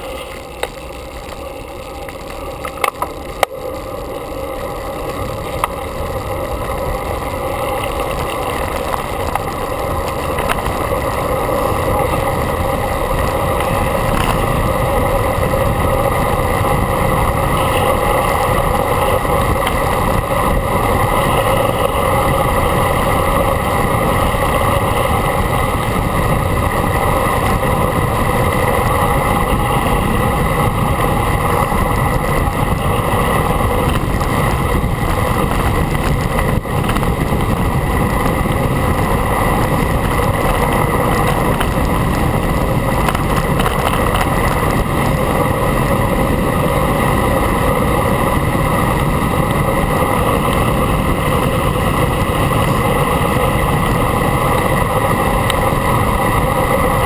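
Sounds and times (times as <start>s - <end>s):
wind rushing over camera: 0.0s - 57.0s.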